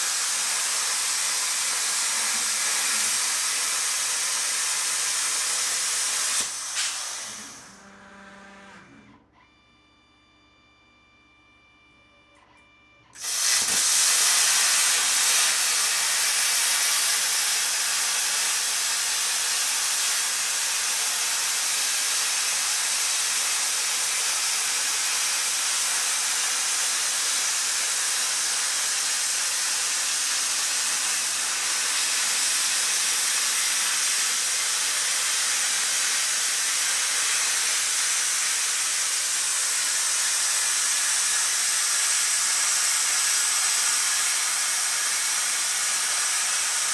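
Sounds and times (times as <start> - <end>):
plasma cutter hissing: 0.0 - 7.6, 13.2 - 46.9.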